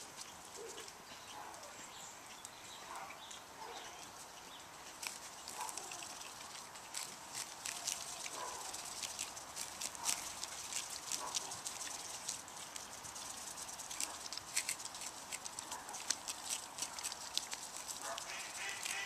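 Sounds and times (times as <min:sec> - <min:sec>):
swans tearing grass: 0:00.0 - 0:19.0.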